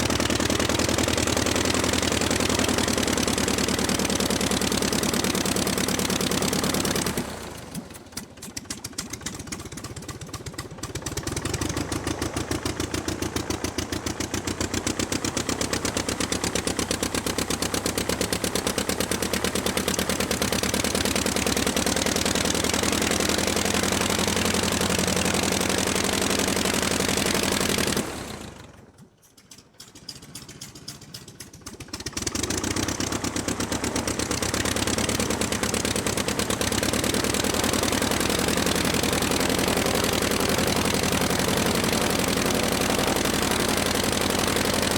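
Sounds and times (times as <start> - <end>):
aircraft engine running: 0.0 - 29.0, 29.9 - 44.9.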